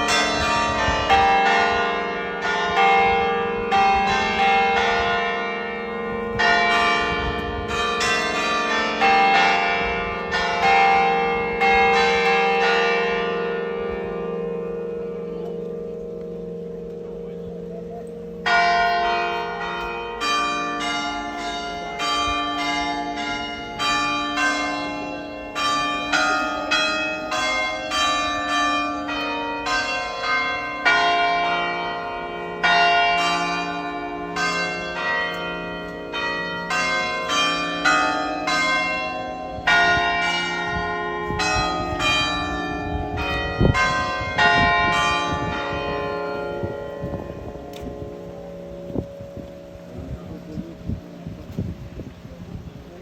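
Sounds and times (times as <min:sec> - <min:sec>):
church bells ringing a peal: 0:00.0 - 0:53.0.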